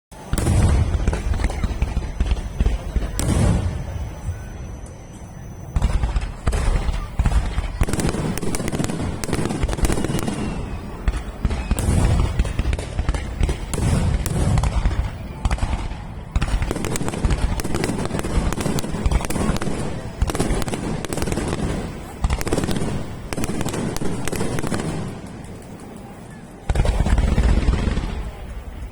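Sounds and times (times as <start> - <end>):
fireworks booming: 0.1 - 28.9
fireworks crackling: 0.2 - 28.9.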